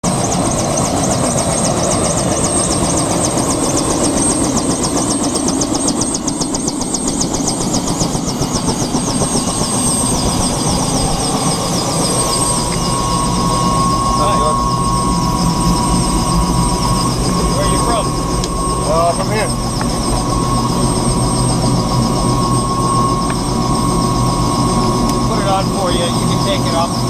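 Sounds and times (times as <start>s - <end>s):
helicopter running: 0.0s - 27.0s.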